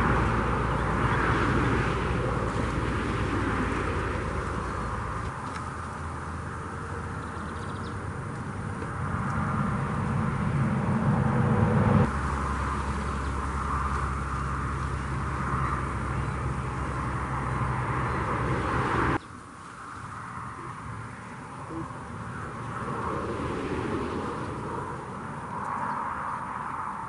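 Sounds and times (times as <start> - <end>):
heavy road traffic drone: 0.0 - 27.0.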